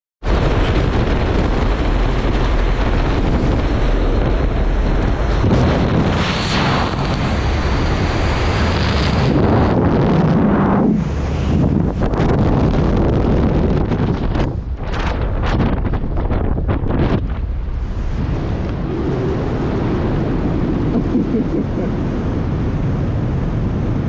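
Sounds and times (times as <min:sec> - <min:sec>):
wind rushing over microphone: 0:00.2 - 0:24.0.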